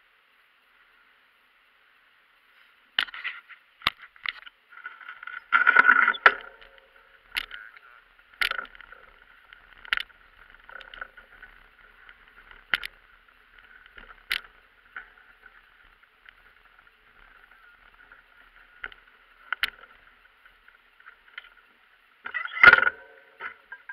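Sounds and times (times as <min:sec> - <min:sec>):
thin steady hiss: 0:00.0 - 0:23.9.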